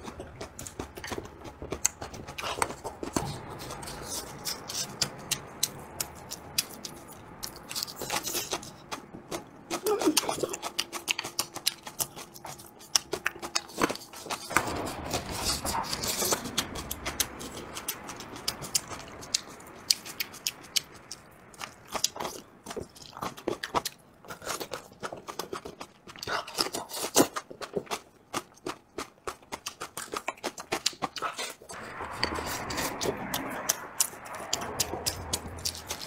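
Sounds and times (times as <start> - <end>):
person chewing with mouth clicks: 0.0 - 36.0.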